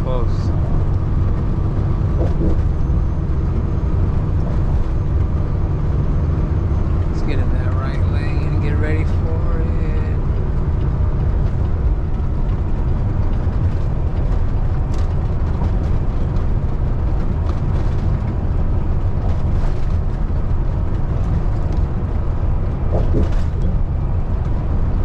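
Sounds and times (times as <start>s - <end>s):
diesel truck engine rumble: 0.0s - 25.0s
road noise: 0.0s - 25.0s.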